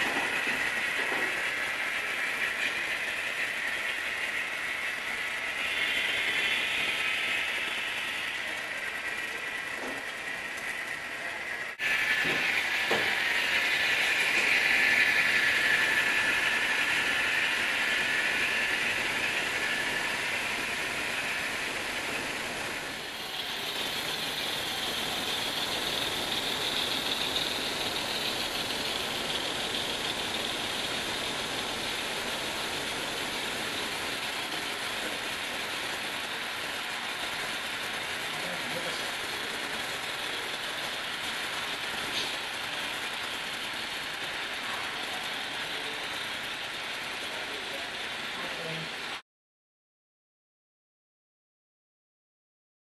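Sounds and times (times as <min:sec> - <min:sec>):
model trains rattling on track: 0:00.0 - 0:49.2.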